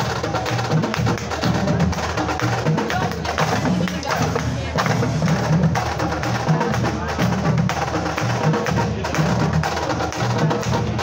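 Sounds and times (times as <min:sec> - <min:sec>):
low bass drum pattern: 0:00.0 - 0:11.0
marching drumline playing: 0:00.0 - 0:11.0.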